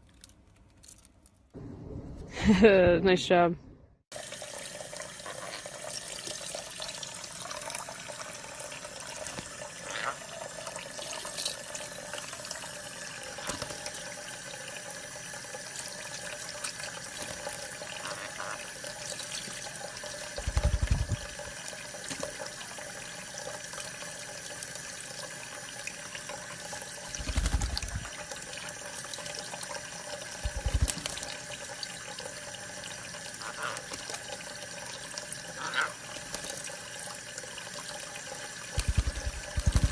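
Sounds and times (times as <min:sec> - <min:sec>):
running water: 0:04.1 - 0:39.9.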